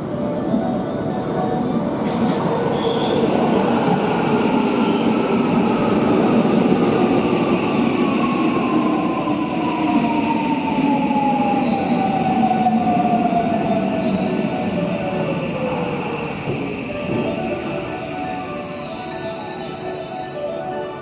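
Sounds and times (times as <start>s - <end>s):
train wheels rumbling on rail: 0.0s - 19.6s.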